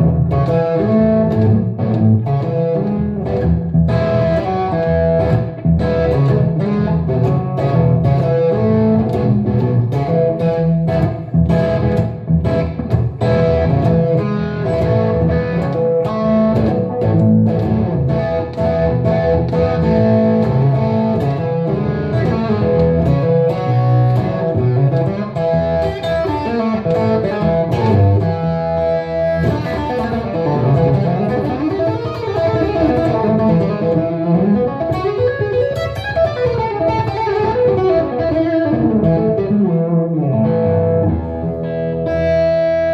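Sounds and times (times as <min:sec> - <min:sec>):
electric guitar blues lead: 0:00.0 - 0:42.9.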